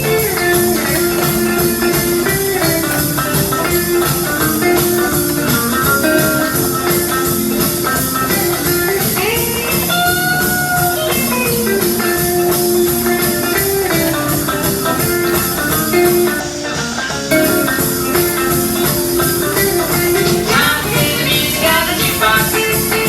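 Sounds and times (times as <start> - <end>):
upbeat band music: 0.0 - 23.0.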